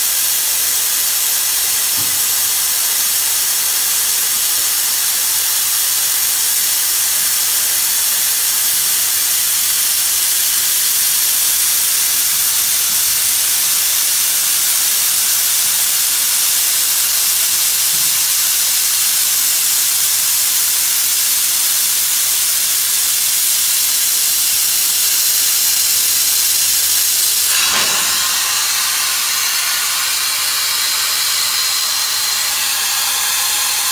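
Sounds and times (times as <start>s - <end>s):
compressed air hissing: 0.0s - 33.9s.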